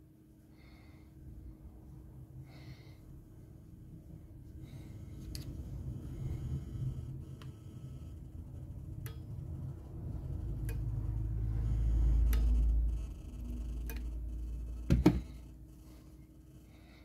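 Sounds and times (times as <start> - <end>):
low rumble: 3.0 - 16.8.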